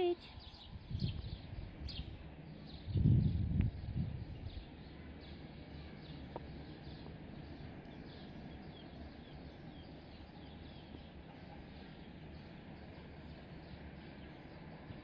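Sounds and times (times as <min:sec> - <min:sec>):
bird chirping: 0:00.0 - 0:15.0
low steady background noise: 0:00.0 - 0:15.0.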